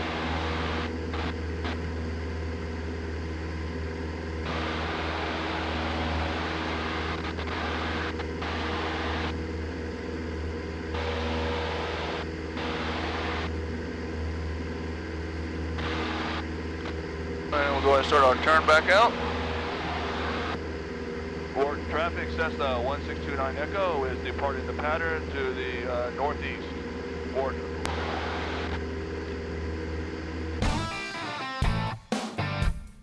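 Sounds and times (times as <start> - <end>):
airplane engine drone: 0.0 - 32.6.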